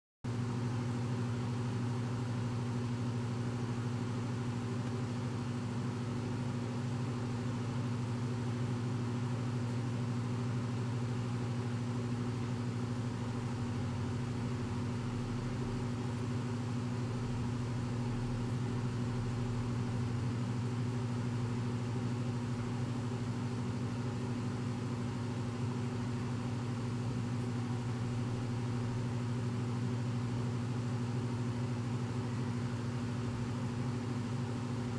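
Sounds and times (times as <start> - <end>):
steady low hum: 0.3 - 34.9.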